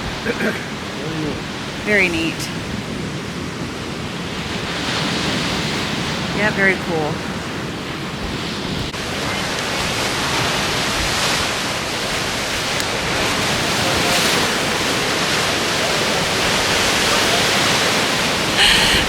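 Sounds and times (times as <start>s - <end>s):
ocean surf: 0.0s - 19.0s
wind: 0.0s - 19.0s.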